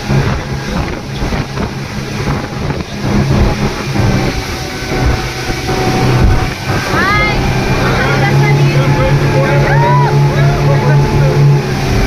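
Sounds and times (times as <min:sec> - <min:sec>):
motorboat engine running: 0:00.0 - 0:12.0
rushing water: 0:00.0 - 0:12.0
wind buffeting microphone: 0:00.0 - 0:12.0.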